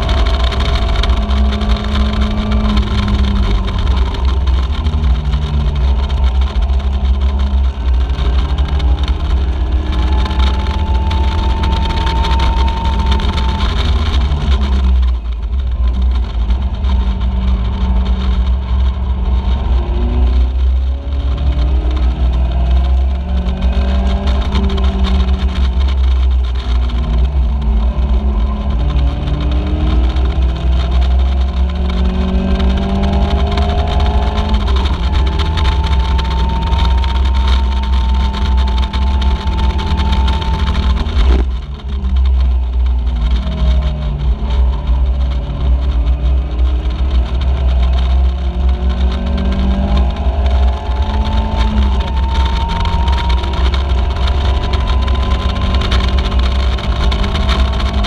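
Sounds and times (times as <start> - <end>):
race car engine revving: 0.0 - 58.0
wind buffeting: 0.0 - 58.0.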